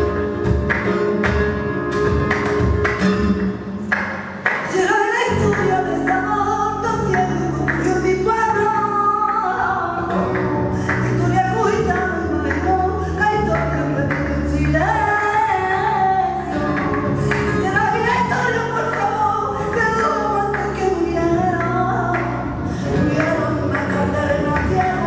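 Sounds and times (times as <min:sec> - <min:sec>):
person singing: 0:04.7 - 0:25.0.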